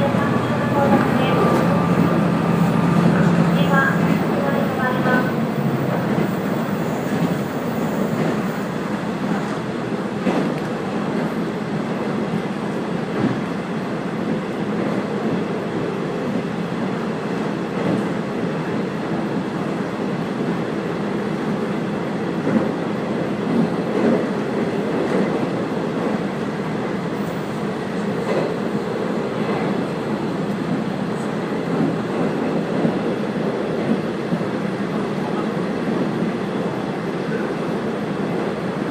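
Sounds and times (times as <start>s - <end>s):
train running noise: 0.0s - 38.9s.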